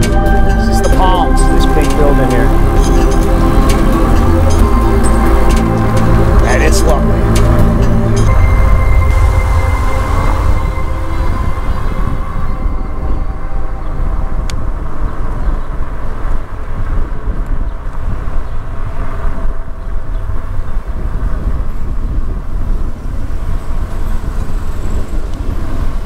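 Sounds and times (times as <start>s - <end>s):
road noise: 0.0s - 26.0s
traffic noise: 0.0s - 26.0s
wind buffeting microphone: 0.0s - 26.0s.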